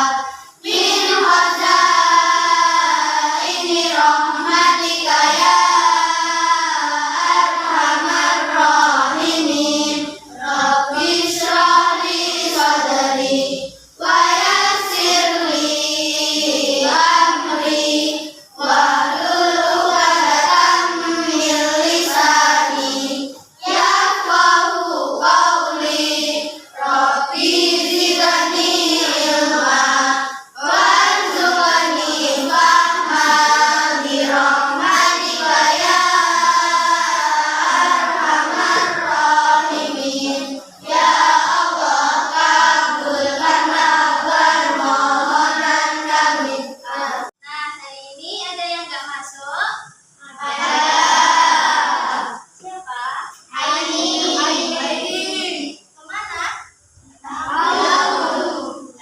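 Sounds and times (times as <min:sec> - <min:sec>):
children singing: 0:00.0 - 0:47.4, 0:50.2 - 0:52.8, 0:53.4 - 0:56.6, 0:57.2 - 0:59.0.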